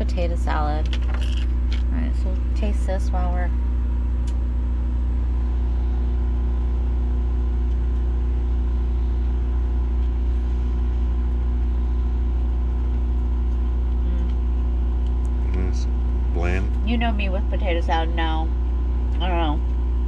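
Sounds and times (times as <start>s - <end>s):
microwave oven hum: 0.0s - 20.0s.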